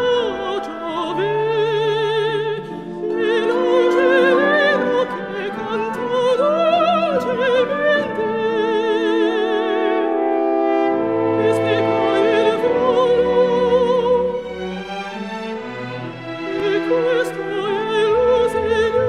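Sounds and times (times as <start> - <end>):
operatic singing: 0.0 - 19.0
orchestral accompaniment: 0.0 - 19.0.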